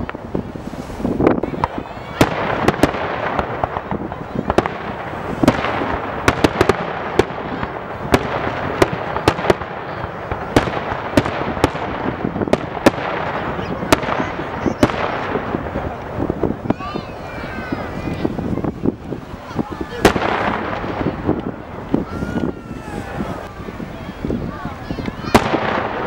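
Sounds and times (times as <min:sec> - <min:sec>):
fireworks bursting: 0:00.0 - 0:26.0
fireworks crackle: 0:00.0 - 0:26.0.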